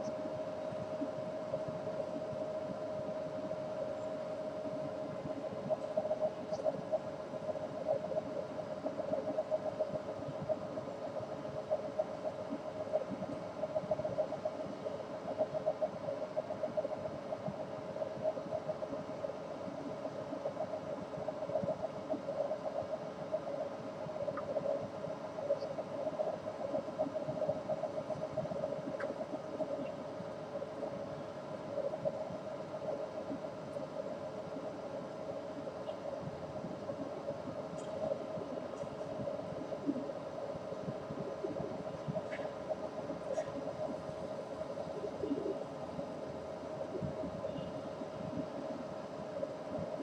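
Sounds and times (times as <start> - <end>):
droning hum: 0.0 - 50.0.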